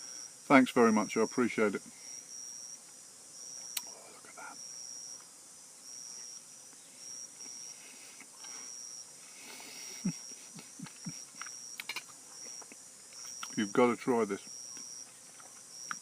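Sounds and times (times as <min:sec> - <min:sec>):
insects chirping in high trills: 0:00.0 - 0:16.0.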